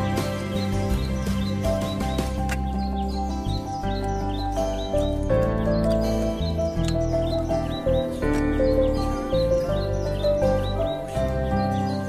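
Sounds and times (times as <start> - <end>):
background music with bass: 0.0 - 12.0.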